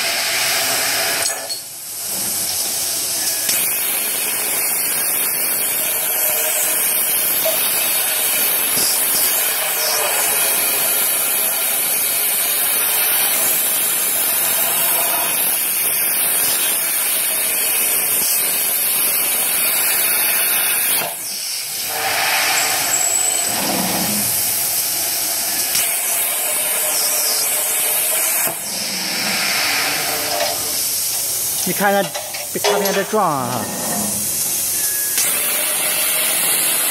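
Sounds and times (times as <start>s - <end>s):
plasma torch hissing: 0.0s - 36.9s.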